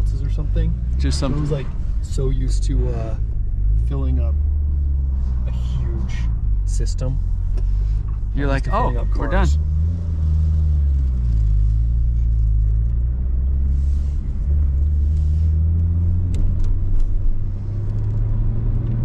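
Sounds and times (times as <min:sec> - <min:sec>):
car engine from inside cabin: 0:00.0 - 0:19.0.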